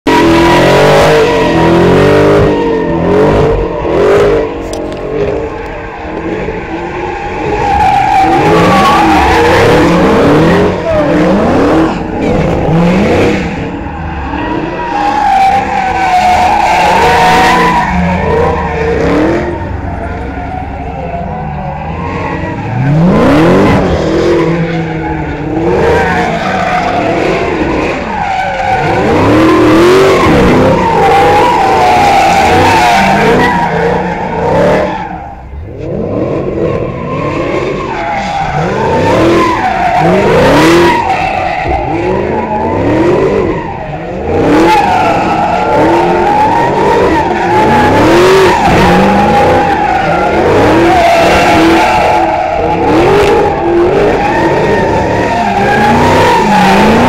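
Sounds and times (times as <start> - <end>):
car engine revving: 0.0 - 57.0
tires squealing on asphalt: 0.1 - 57.0.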